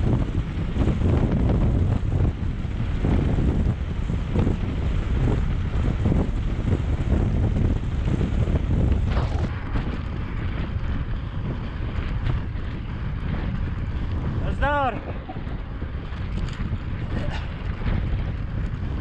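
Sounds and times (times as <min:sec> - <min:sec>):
bike knocks and rattles: 0:00.0 - 0:19.0
bike tyres rumbling on gravel: 0:00.0 - 0:19.0
wind buffeting microphone: 0:00.0 - 0:19.0.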